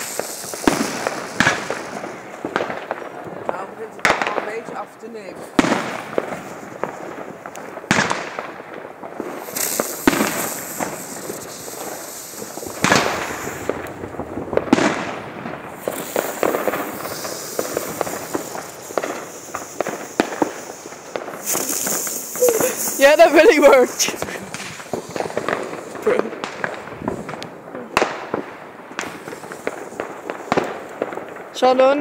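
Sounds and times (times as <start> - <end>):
crackling firework pops: 0.0 - 32.0
fireworks bangs: 0.0 - 32.0.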